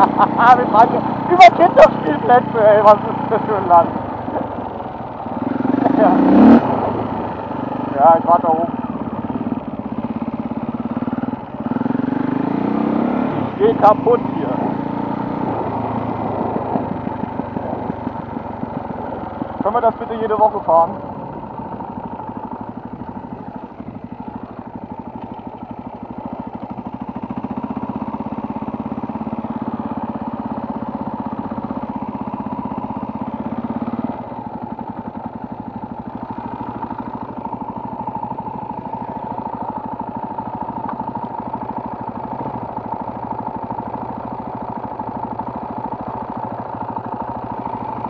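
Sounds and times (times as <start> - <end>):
moped engine running: 0.0 - 48.0.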